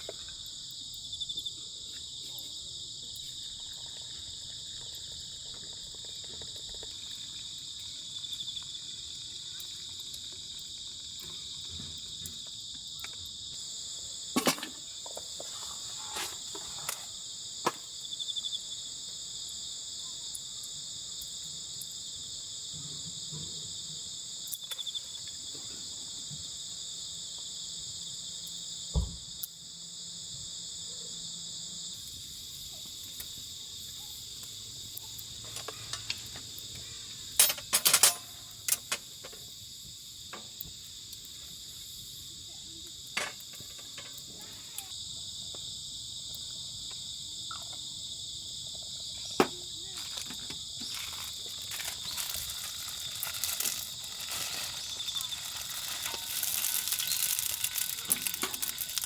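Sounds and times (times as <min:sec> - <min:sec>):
crickets and insects chirring: 0:00.0 - 0:59.0.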